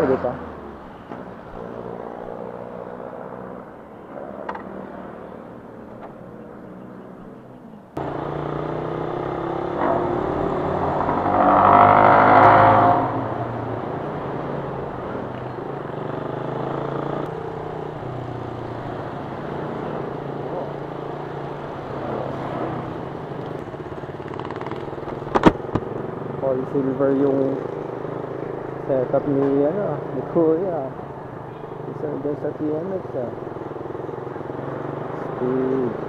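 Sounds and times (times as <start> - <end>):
road noise: 0.0 - 36.0
motorcycle engine running: 6.4 - 36.0.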